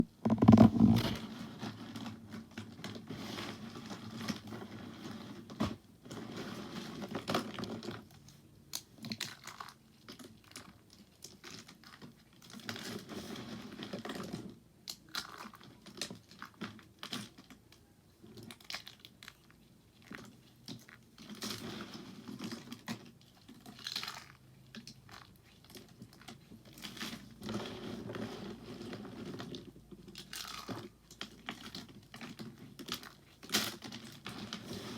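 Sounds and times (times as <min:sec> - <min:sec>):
bar soap crunching and crackling: 0:00.0 - 0:34.9.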